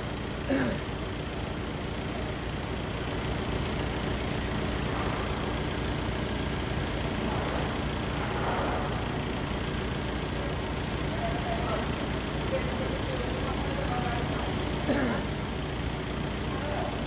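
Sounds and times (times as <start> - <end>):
forklift engine idling: 0.0 - 17.0.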